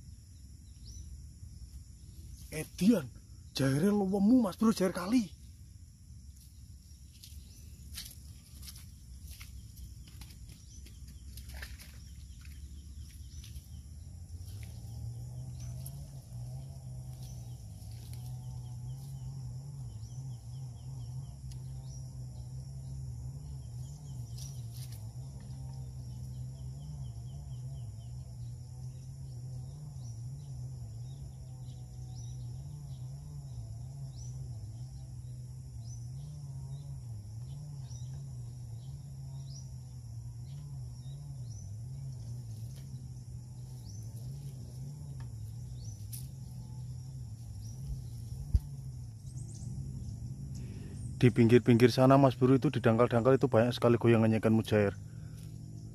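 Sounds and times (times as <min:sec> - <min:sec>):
low steady hum: 0:00.0 - 0:55.9
high-pitched insect buzzing: 0:02.2 - 0:51.2.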